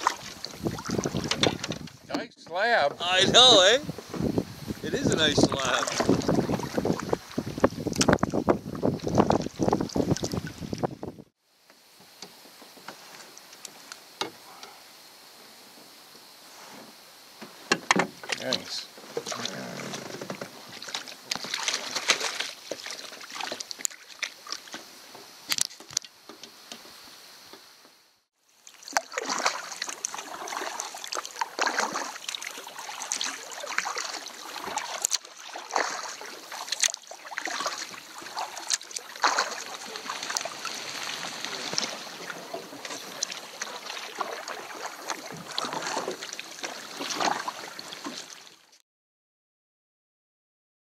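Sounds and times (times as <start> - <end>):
paddle strokes: 0.0 - 11.0, 11.7 - 27.0, 28.6 - 48.7
water lapping against canoe hull: 0.0 - 14.9, 15.7 - 27.0, 28.5 - 48.8.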